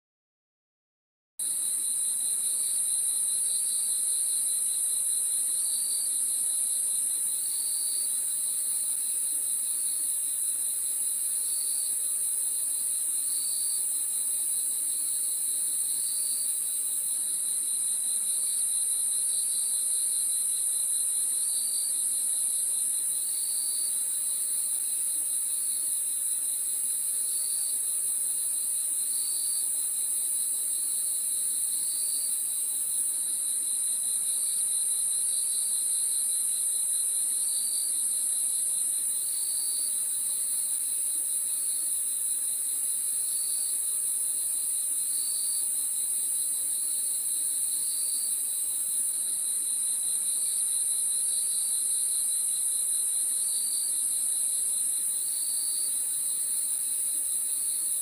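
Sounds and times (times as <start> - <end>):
crickets chirping: 1.4 - 58.0.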